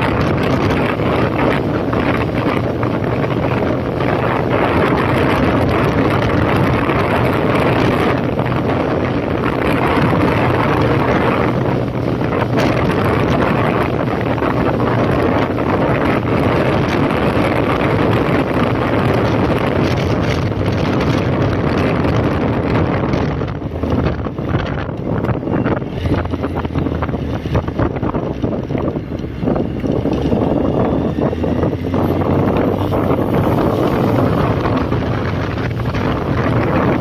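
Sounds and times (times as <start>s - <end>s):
motorcycle engine running: 0.0s - 37.0s
wind rushing over microphone: 0.0s - 37.0s.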